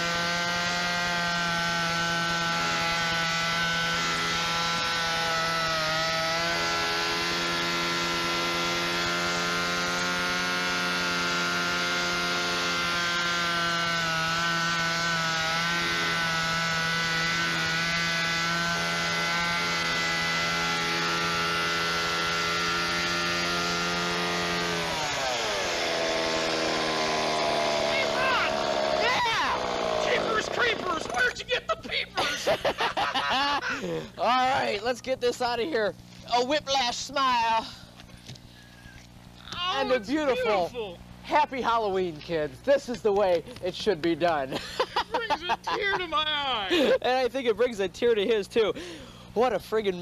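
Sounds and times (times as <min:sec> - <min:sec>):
chainsaw carving pumpkin: 0:00.0 - 0:50.0.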